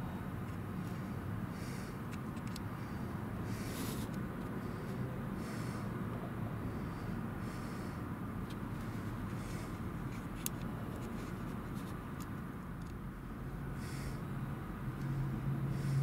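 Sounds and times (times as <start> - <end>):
idling engines and traffic: 0.0 - 16.0
low engine hum: 0.0 - 16.0.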